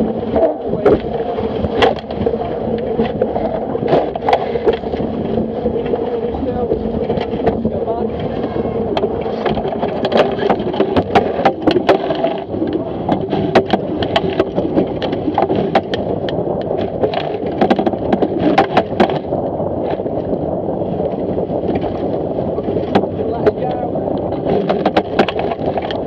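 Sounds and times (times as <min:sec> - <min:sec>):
knocks and clicks from boat: 0:00.0 - 0:26.0
water rushing past hull: 0:00.0 - 0:26.0
wind noise: 0:00.0 - 0:26.0.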